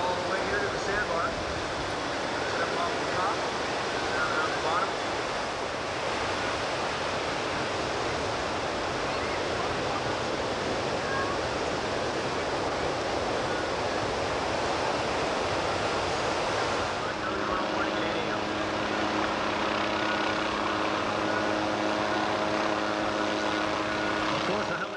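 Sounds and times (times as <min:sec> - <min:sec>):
ocean surf breaking: 0:00.0 - 0:24.9.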